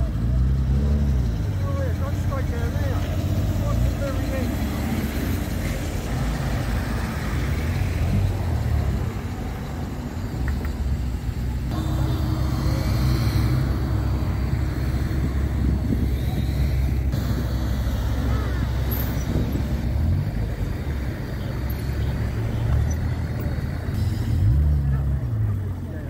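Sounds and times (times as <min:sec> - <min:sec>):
car engines driving slowly past: 0:00.0 - 0:26.0.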